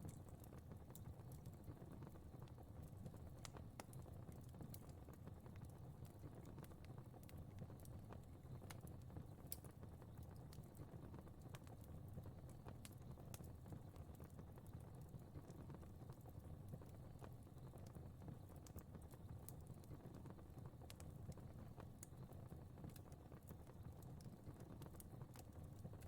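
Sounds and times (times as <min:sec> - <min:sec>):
fire popping and snapping: 0:00.0 - 0:26.0
low rumble of flames: 0:00.0 - 0:26.0.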